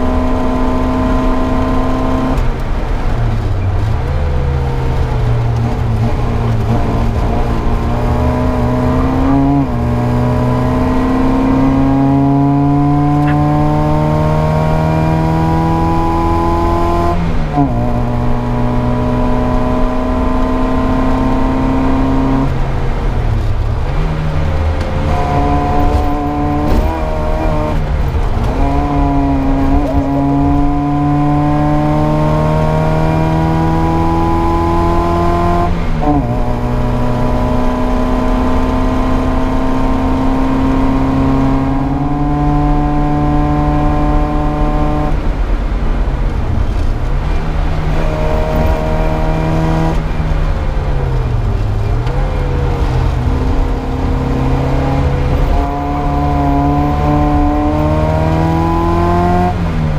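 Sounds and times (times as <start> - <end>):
race car engine at speed: 0.0 - 59.9
road rumble: 0.0 - 59.9.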